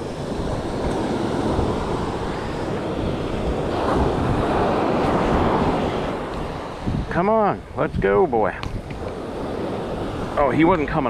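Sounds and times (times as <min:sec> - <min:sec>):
surf breaking on sand: 0:00.0 - 0:11.0
wind buffeting microphone: 0:00.0 - 0:11.0.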